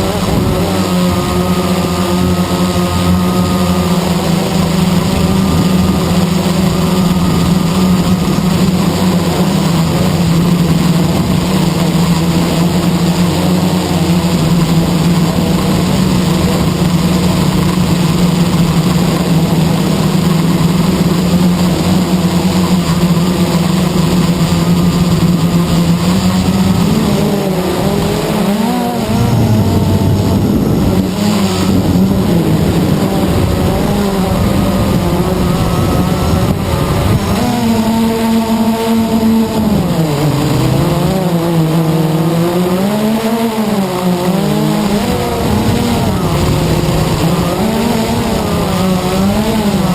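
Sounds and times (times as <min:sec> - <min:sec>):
quadcopter propellers buzzing: 0:00.0 - 0:49.9.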